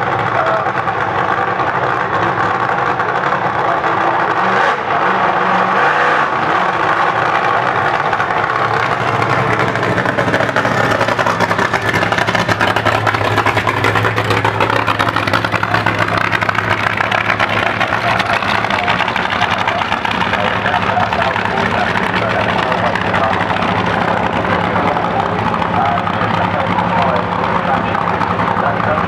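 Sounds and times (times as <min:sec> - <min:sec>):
exhaust crackle: 0:00.0 - 0:29.0
race car engine rumble: 0:00.0 - 0:29.0.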